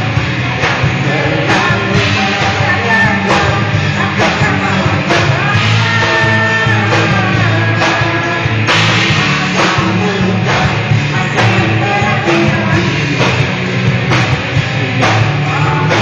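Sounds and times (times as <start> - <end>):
person singing: 0.0 - 14.0, 14.7 - 16.0
rock band playing: 0.0 - 16.0.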